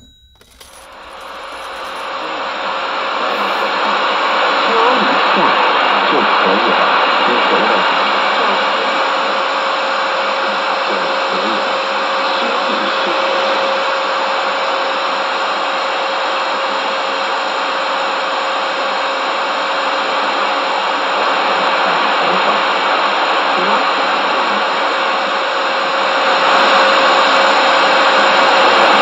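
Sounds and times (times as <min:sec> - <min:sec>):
radio static hiss: 0:00.0 - 0:15.3, 0:18.7 - 0:29.0.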